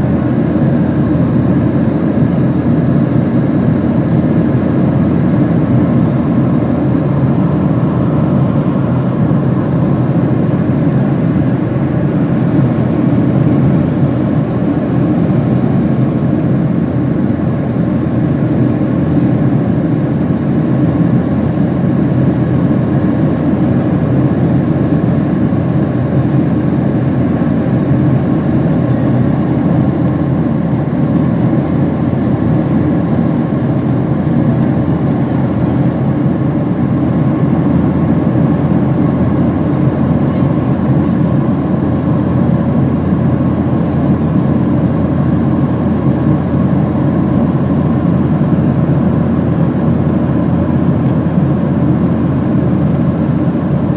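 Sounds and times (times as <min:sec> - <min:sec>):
plane cabin engine rumble: 0:00.0 - 0:53.9.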